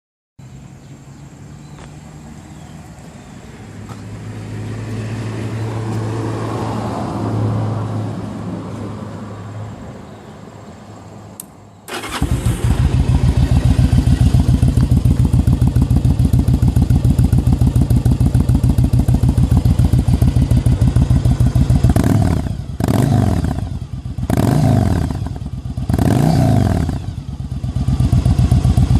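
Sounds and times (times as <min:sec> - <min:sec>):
motorcycle engine idling and revving: 0:00.5 - 0:09.8, 0:11.4 - 0:28.9.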